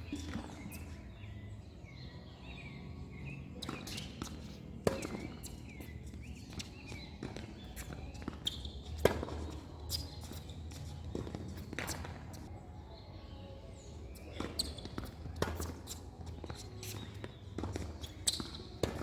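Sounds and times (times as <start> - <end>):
tennis balls hit and bouncing: 0.0 - 12.6, 13.8 - 19.0.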